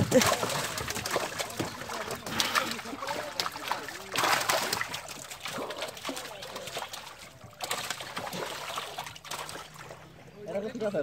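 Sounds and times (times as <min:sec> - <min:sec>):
fish splashing in water: 0:00.0 - 0:10.4.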